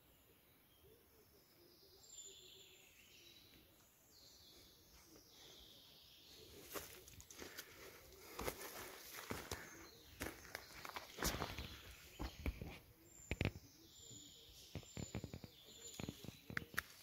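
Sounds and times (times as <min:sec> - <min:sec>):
faint high bird calls: 0:00.0 - 0:17.0.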